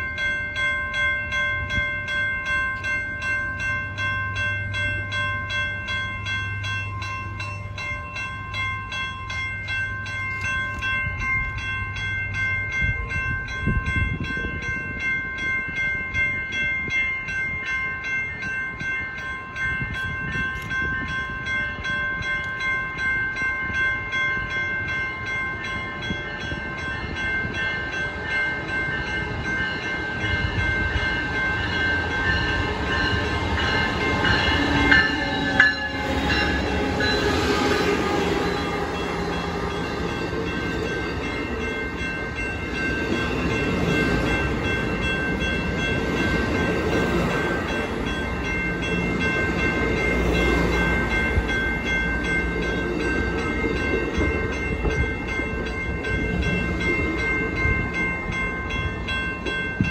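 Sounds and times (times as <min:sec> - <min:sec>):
crossing warning bells ringing: 0:00.0 - 0:59.9
train wheels rumbling on rails: 0:00.0 - 0:59.9.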